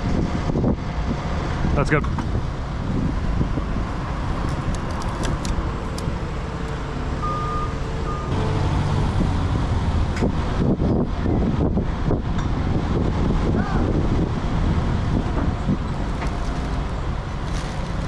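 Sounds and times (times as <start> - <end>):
engine running: 0.0 - 18.0
wind buffeting microphone: 0.0 - 18.0.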